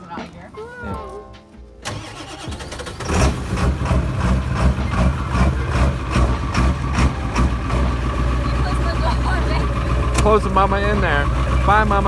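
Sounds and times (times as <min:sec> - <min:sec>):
diesel engine idling: 0:01.8 - 0:12.0
starter motor cranking: 0:01.8 - 0:12.0.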